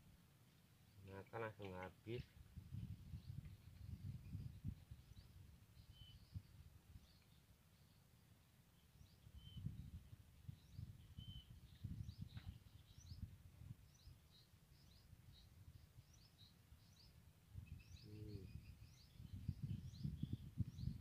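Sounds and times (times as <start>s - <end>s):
small birds chirping: 0.5s - 21.0s.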